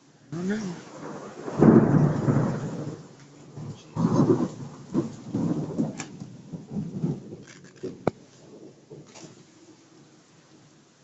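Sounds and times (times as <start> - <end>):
heavy rain: 0.0 - 11.0
thunder rumbling: 0.3 - 10.7.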